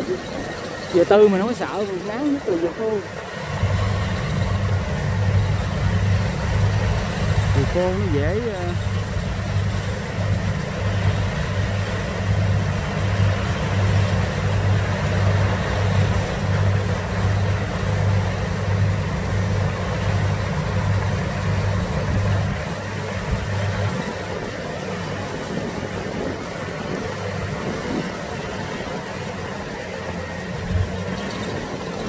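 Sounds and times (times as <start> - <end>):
diesel engine running under load: 0.0 - 32.0.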